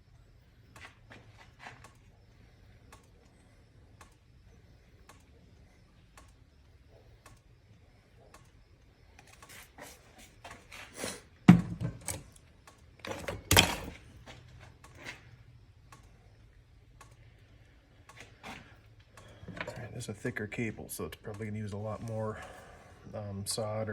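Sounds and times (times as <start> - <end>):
faint low hum: 0.0 - 23.9.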